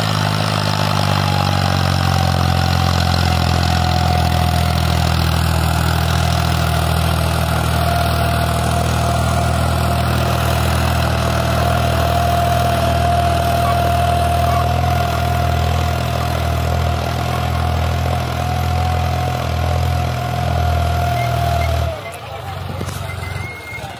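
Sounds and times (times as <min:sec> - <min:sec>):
tractor diesel engine under load: 0:00.0 - 0:23.9.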